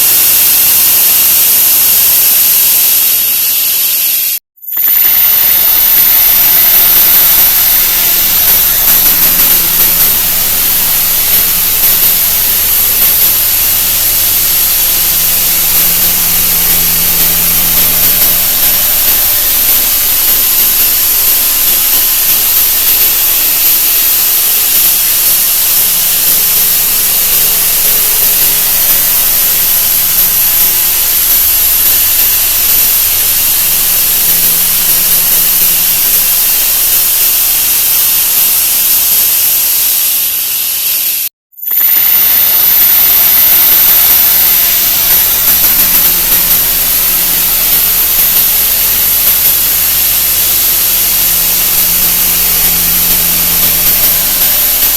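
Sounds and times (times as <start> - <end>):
thin high whine: 0.0 - 54.9.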